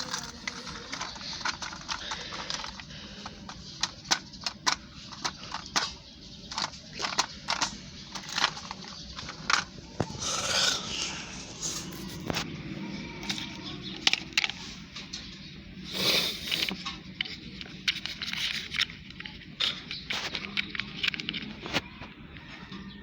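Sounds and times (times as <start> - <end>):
plastic toys clicking together: 0.0 - 11.1, 13.2 - 15.3, 15.9 - 22.5.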